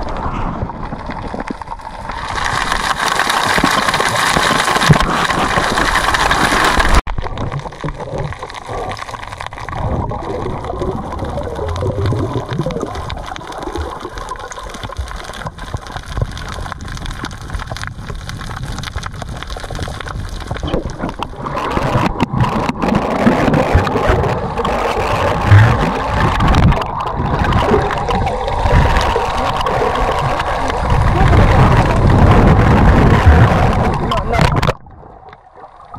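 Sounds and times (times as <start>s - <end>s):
muffled underwater gurgling: 0.0s - 35.9s.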